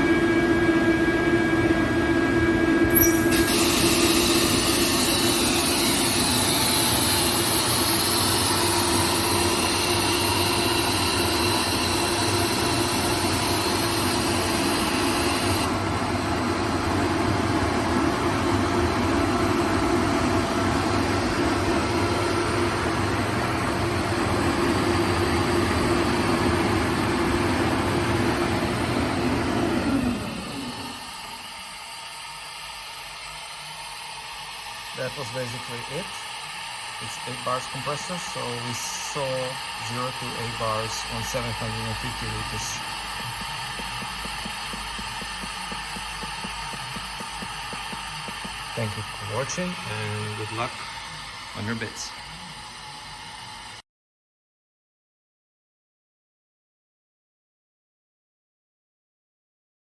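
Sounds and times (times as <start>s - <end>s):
air compressor humming: 0.0s - 53.8s.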